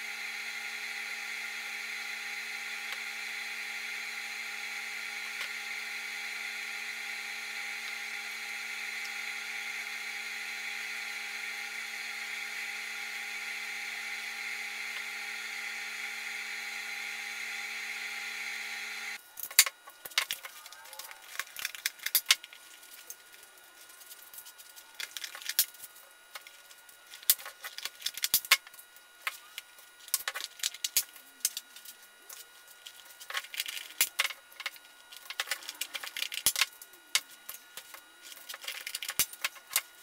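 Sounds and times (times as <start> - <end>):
machine hum with high whine: 0.0 - 40.0.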